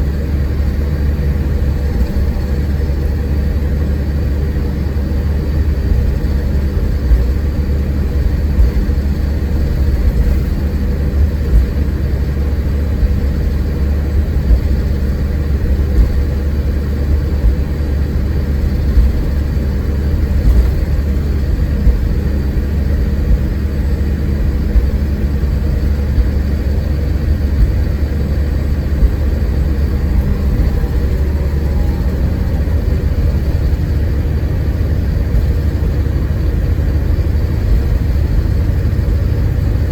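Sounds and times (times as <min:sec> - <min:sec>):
coach engine and road rumble: 0:00.0 - 0:39.9.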